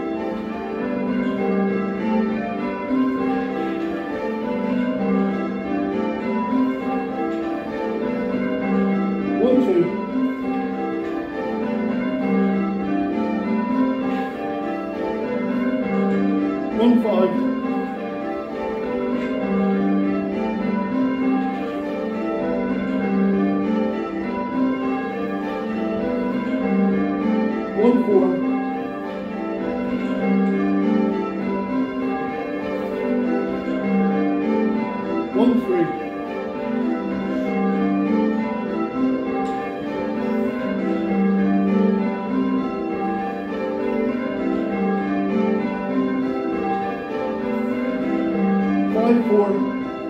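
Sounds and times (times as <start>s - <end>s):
church bells ringing changes: 0.0s - 50.0s.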